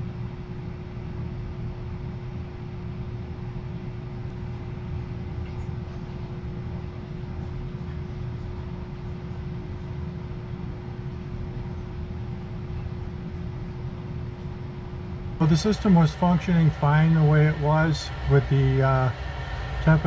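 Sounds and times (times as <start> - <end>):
duct fan running: 0.0 - 20.0.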